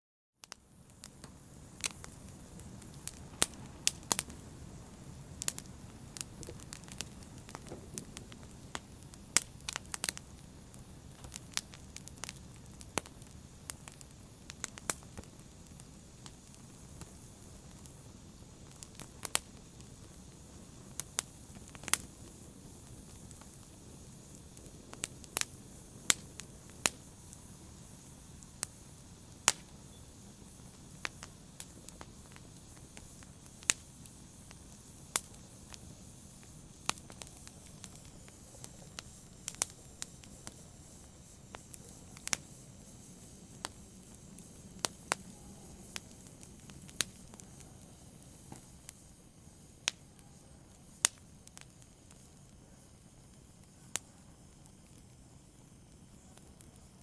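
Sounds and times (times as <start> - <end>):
fire crackling and popping: 0.4 - 57.0
low rumble of flames: 0.4 - 57.0.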